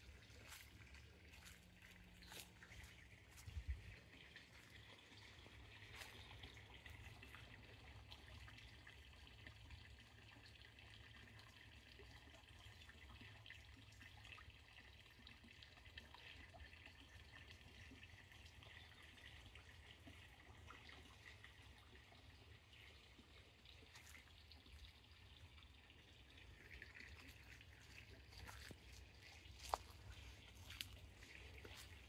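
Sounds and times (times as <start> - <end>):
water trickling and dripping: 0.0 - 32.0.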